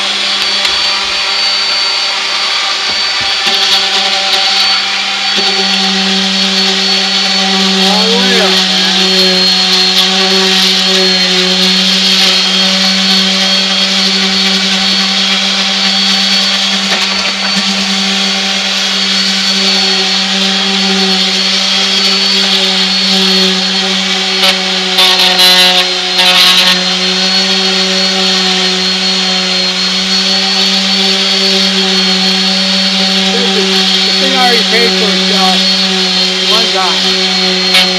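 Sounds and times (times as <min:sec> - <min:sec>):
orbital sander on wood: 0:00.0 - 0:37.9.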